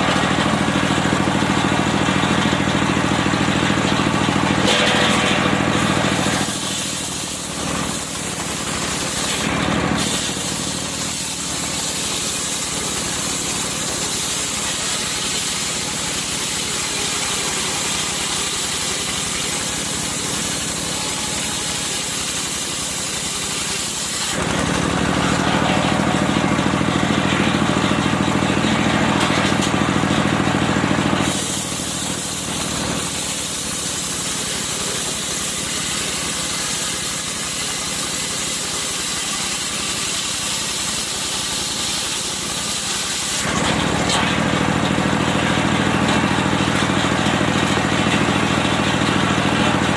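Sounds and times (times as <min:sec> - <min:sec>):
sawmill engine sawing wood: 0:00.0 - 0:49.9.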